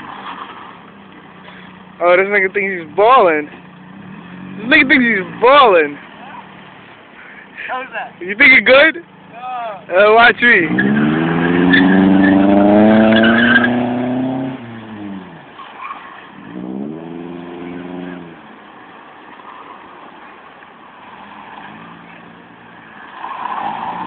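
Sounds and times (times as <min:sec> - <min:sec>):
car engine revving: 0:00.0 - 0:18.8, 0:21.0 - 0:24.0.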